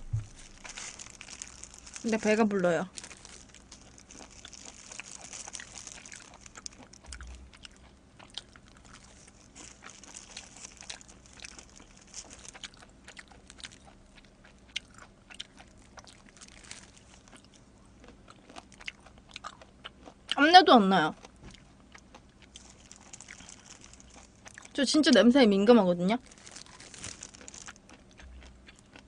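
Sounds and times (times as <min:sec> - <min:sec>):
chewing with mouth clicks: 0:02.9 - 0:20.4, 0:21.2 - 0:24.8, 0:26.2 - 0:29.0.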